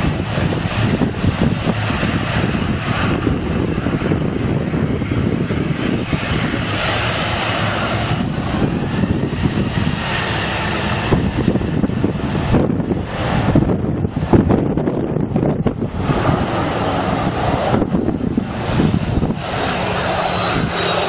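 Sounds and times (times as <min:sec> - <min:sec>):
aircraft engines rushing: 0:00.0 - 0:21.0.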